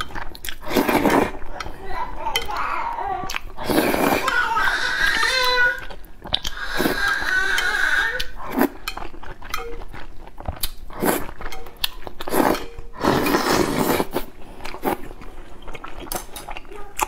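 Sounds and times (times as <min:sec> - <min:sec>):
noodles slurped and chewed: 0:00.0 - 0:17.0.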